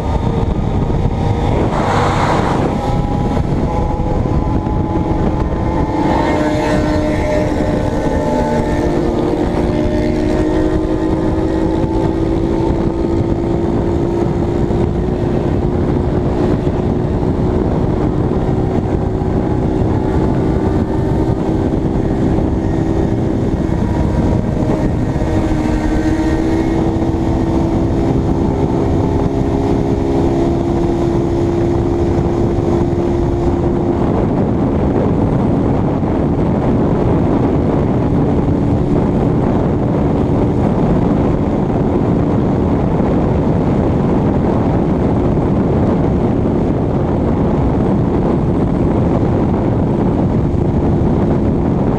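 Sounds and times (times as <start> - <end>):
motorcycle engine cruising: 0.0 - 51.9
wind rumble on microphone: 0.0 - 51.9.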